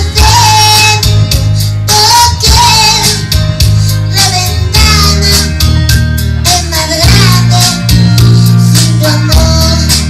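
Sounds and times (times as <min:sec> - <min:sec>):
recorded ballad music playing loudly: 0:00.0 - 0:10.0.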